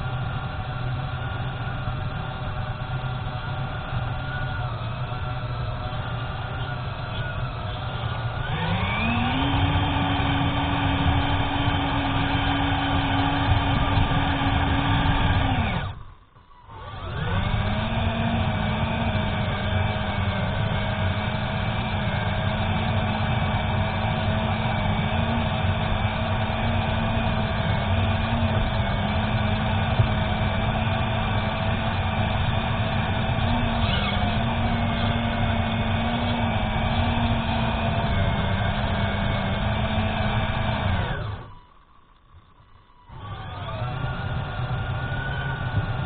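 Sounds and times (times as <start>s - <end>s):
toy tractor electric motor whining: 0.0s - 46.0s.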